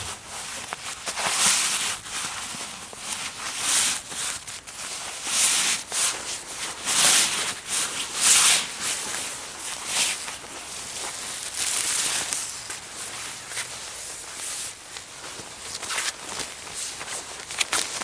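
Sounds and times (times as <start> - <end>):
rustling and swishing: 0.0 - 18.0.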